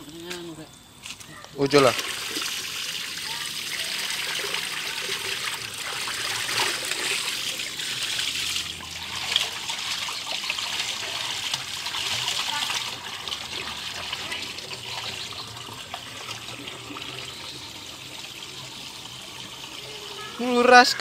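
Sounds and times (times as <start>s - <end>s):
water trickling along concrete channel: 0.1s - 21.0s.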